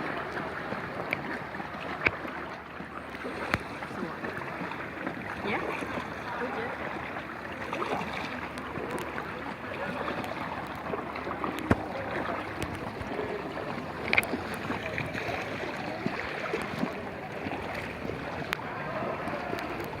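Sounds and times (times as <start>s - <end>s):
water splashing around canoe: 0.0s - 20.0s.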